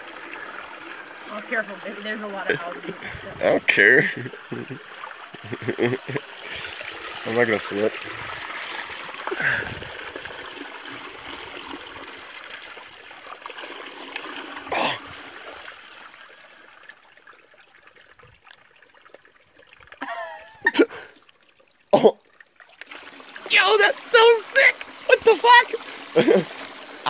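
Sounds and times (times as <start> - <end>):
creek water trickling over rocks: 0.0 - 27.0.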